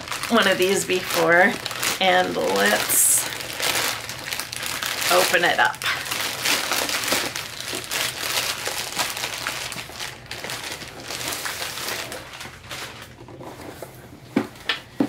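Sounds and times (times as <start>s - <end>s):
plastic bag tearing and crinkling: 0.0s - 13.4s.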